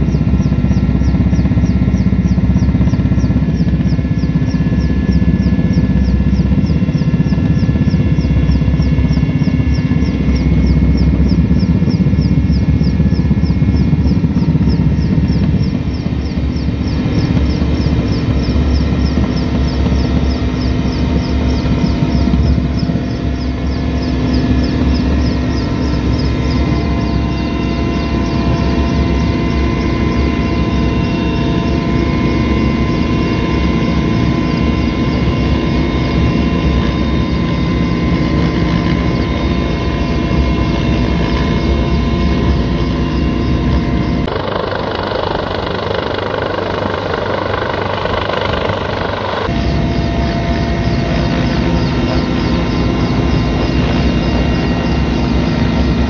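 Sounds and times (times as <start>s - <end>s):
whining tones: 0.0s - 44.3s, 45.6s - 56.0s
helicopter engine and rotor drone: 0.0s - 56.0s.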